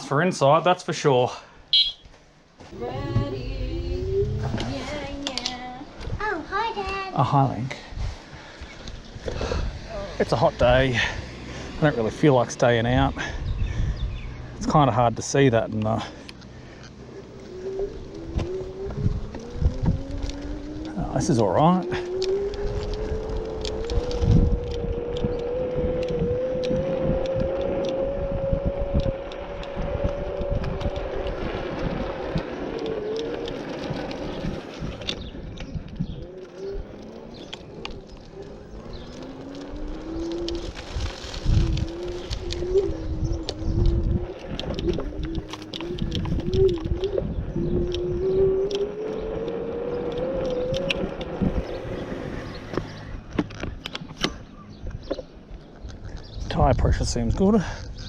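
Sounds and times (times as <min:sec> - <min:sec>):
wind rumble on microphone: 0:02.7 - 0:07.1, 0:07.8 - 0:58.0
electric scooter motor whining: 0:02.7 - 0:56.4.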